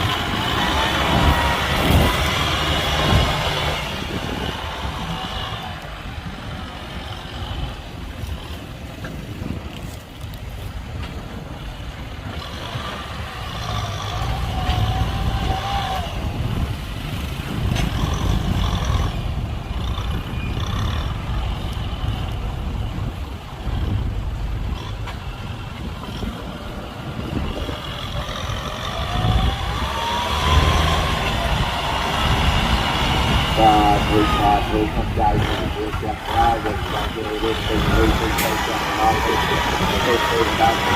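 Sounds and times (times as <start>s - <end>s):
diesel machinery rumbling: 0.0s - 40.9s
engine whine: 0.0s - 40.9s.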